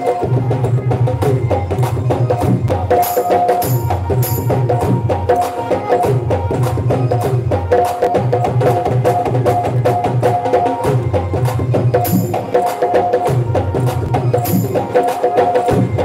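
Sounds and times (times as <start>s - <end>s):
fast percussion with wood-block clicks: 0.0s - 16.0s.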